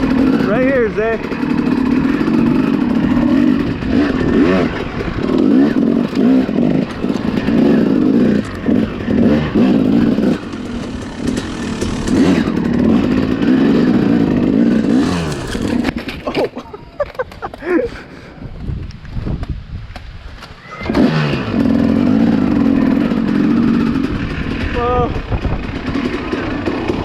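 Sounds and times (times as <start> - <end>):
dirt bike engine revving: 0.0 - 17.8, 20.8 - 27.0.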